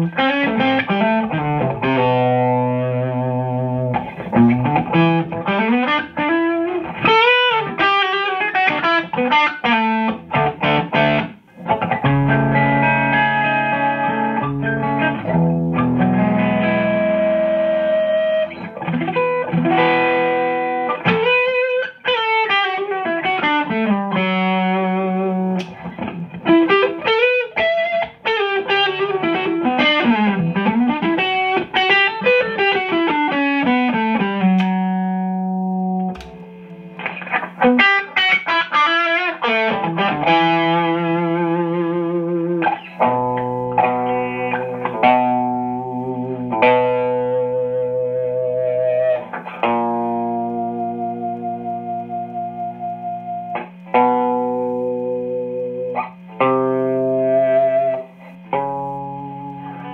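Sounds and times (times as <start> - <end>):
electric guitar through amplifier: 0.0 - 59.9.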